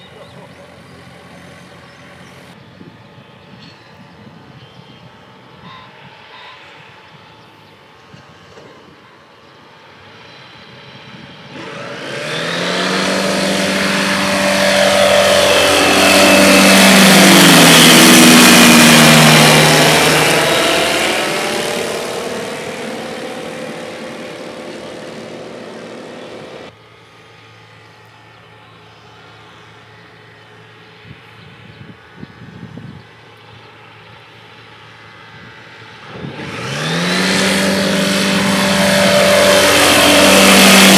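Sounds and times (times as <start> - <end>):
propeller aircraft passing overhead: 0.0 - 40.9.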